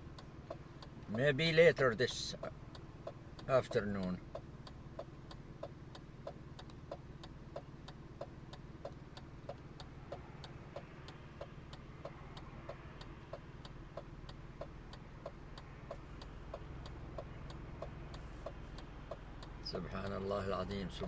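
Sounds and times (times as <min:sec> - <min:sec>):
car engine idling hum: 0:00.0 - 0:21.0
turn signal relay ticking: 0:00.0 - 0:21.0.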